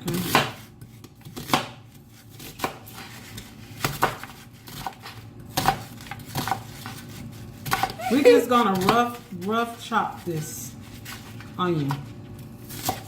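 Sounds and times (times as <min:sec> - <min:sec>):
knife chopping onion: 0:00.0 - 0:13.0.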